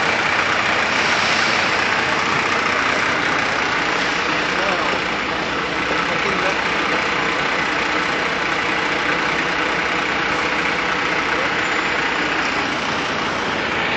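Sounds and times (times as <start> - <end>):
city street traffic: 0.0 - 13.9
vehicle engines idling: 0.0 - 13.9.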